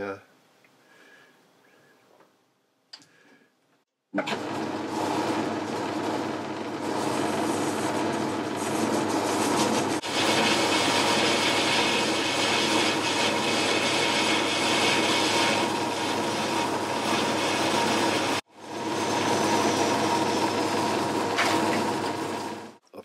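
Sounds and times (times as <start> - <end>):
metal lathe cutting: 4.2 - 22.8.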